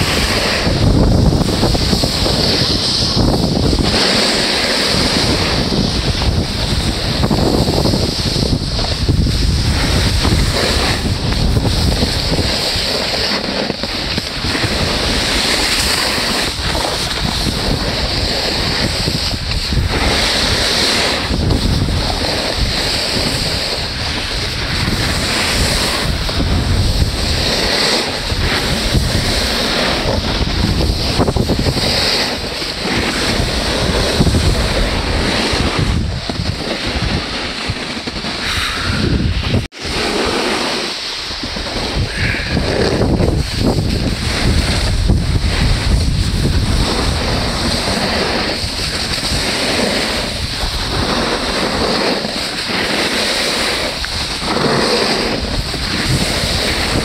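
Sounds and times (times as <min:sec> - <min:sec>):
hiss of sliding on snow: 0:00.0 - 0:57.0
wind buffeting microphone: 0:00.0 - 0:57.0.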